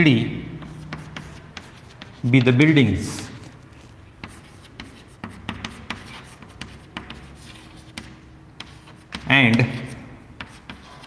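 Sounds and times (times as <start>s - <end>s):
chalk tapping and scratching: 0.5s - 11.0s.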